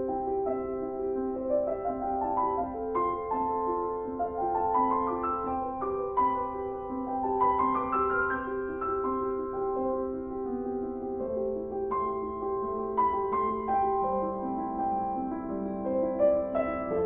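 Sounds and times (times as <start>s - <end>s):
piano music with rising runs: 0.0s - 17.0s.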